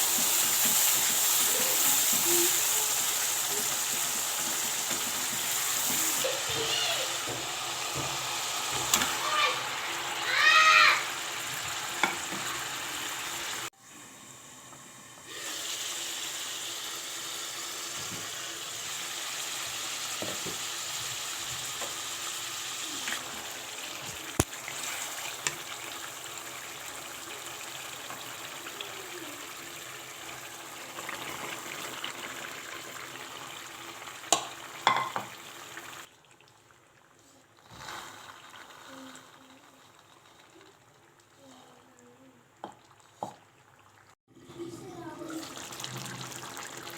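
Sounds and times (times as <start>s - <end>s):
food sizzling in hot oil: 0.0s - 36.1s, 37.2s - 41.8s, 42.6s - 46.9s.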